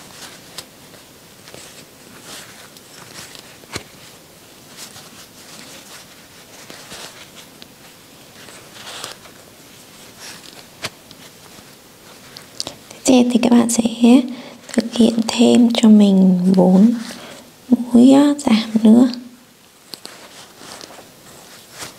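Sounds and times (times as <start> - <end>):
yarn rustling and scratching: 0.0 - 17.4, 19.8 - 21.9.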